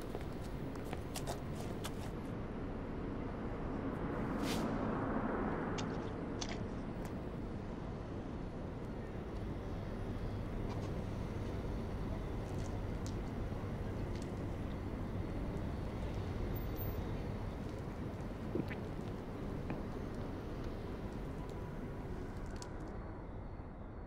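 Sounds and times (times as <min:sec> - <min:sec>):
low rumbling ambience: 0:00.0 - 0:24.0.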